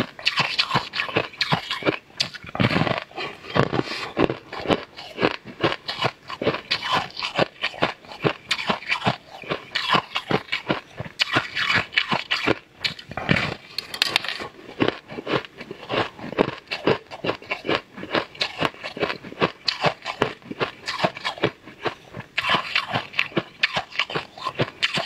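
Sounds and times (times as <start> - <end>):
chewing: 0.0 - 25.0
crunching hard sweet: 0.0 - 25.0.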